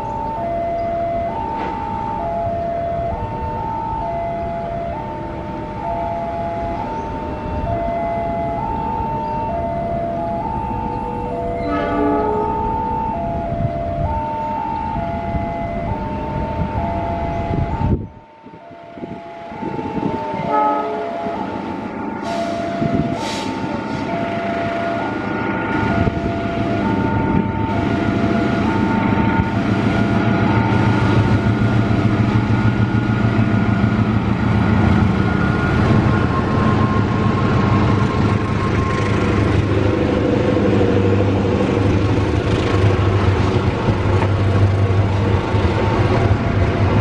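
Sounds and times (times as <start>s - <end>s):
two-tone level crossing alarm: 0.0s - 39.9s
diesel locomotive engine: 0.0s - 47.0s
passenger coaches rumbling by: 0.0s - 47.0s.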